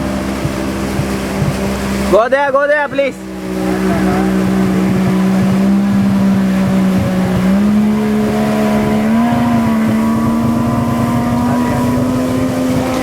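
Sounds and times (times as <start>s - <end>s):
jet ski engine running: 0.0s - 13.0s
water rushing: 0.0s - 13.0s.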